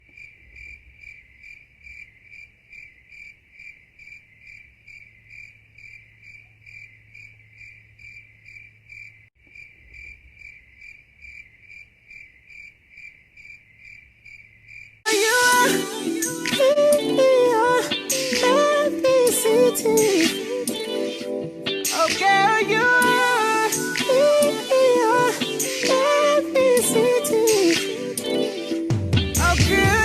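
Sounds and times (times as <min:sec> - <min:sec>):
crickets chirping: 0:00.0 - 0:28.8.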